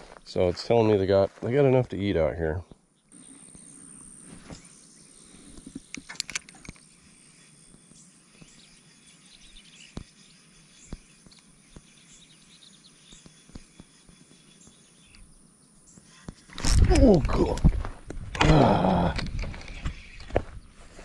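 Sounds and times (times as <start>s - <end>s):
faint birds chirping: 0.0s - 21.0s
faint insects chirping: 0.0s - 21.0s.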